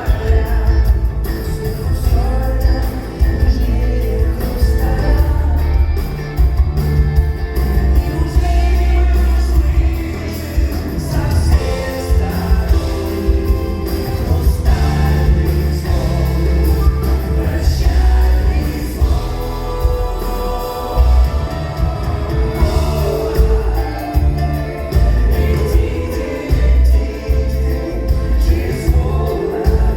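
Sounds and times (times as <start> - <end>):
band with heavy bass and beat: 0.0 - 29.9
person singing: 0.0 - 29.9.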